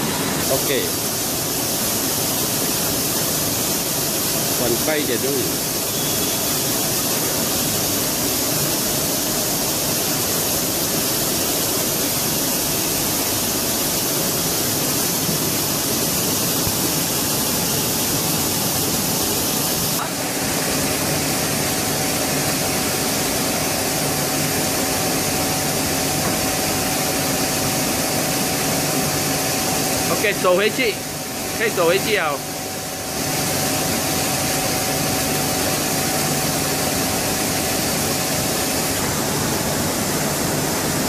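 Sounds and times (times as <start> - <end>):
lathe machinery hissing: 0.0 - 41.0.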